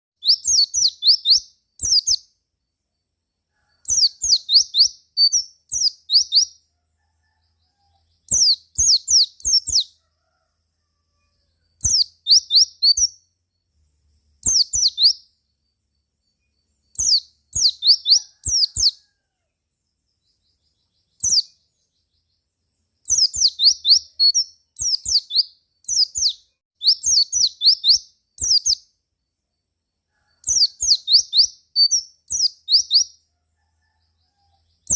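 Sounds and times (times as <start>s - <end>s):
bird chirping: 0.2s - 10.4s, 11.2s - 34.9s.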